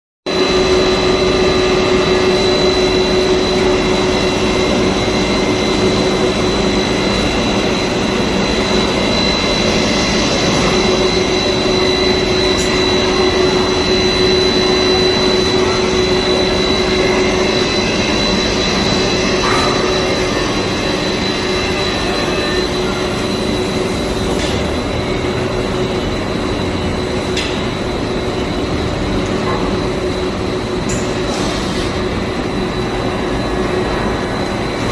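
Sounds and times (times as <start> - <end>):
extrusion machine drone: 0.3 - 34.9
machine whines: 0.3 - 34.9.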